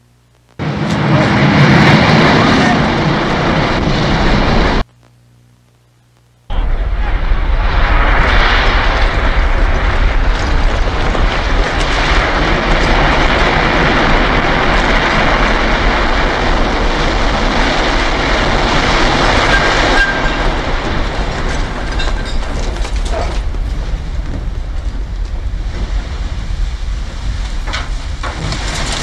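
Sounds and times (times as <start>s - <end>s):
building collapse roar: 0.6s - 4.8s, 6.5s - 29.0s.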